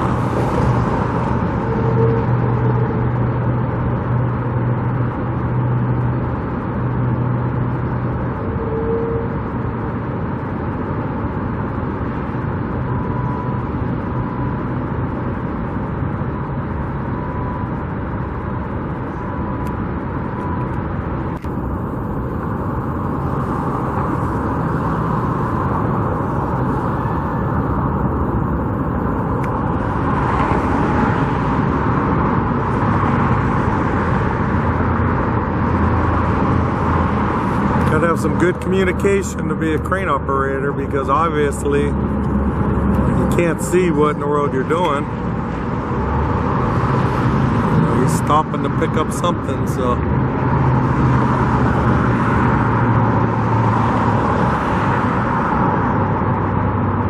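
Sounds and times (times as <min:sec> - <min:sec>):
road traffic rumble and hiss: 0:00.0 - 0:57.0.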